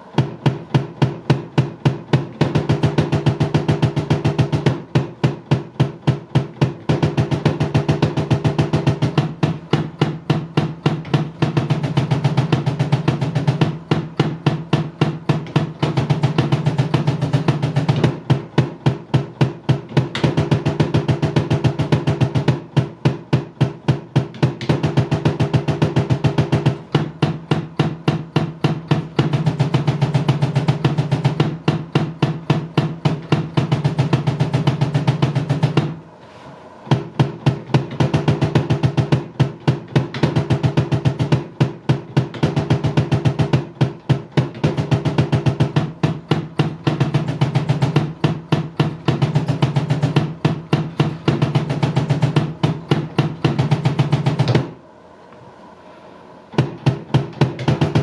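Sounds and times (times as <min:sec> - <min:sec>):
fast kick drum strokes: 0:00.0 - 0:36.1, 0:36.9 - 0:54.8, 0:56.5 - 0:58.0.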